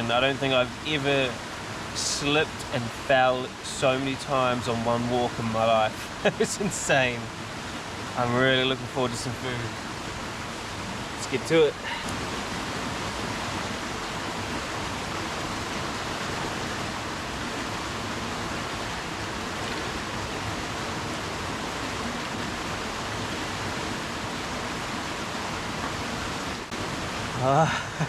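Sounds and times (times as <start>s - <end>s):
stream flowing over rocks: 0.0s - 28.0s.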